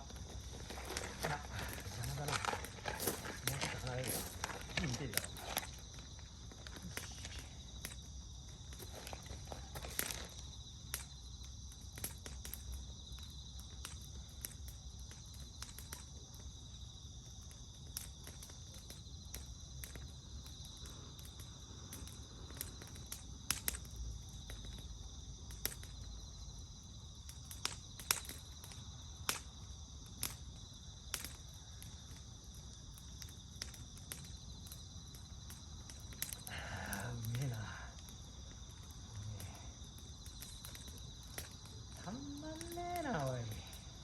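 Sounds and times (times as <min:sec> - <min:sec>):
burning wood popping: 0:00.0 - 0:44.0
insects trilling: 0:00.0 - 0:44.0
wood fire crackling: 0:00.0 - 0:44.0.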